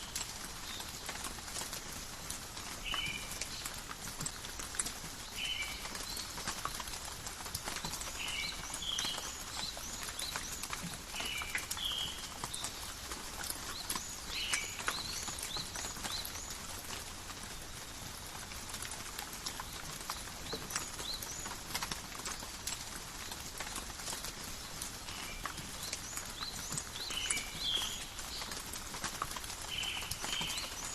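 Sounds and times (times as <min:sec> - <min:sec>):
light rain with drop ticks: 0:00.0 - 0:30.9.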